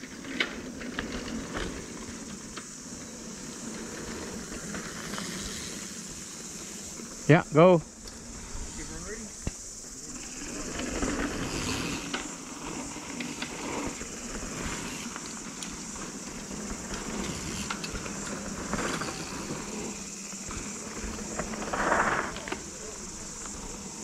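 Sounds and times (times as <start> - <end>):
tyre noise on dirt trail: 0.0 - 24.0.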